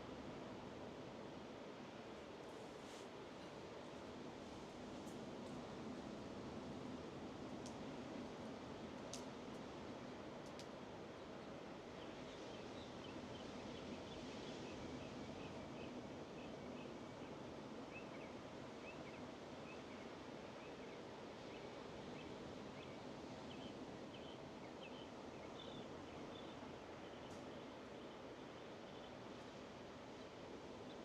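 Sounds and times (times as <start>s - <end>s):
faint ocean surf: 0.0s - 31.0s.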